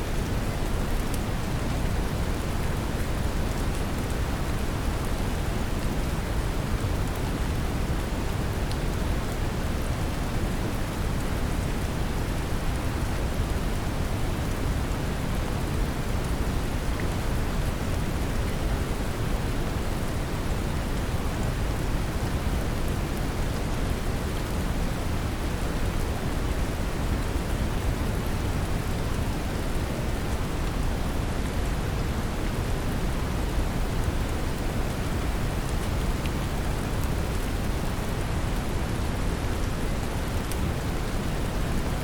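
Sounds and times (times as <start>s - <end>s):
gentle rain pattering: 0.0s - 42.0s.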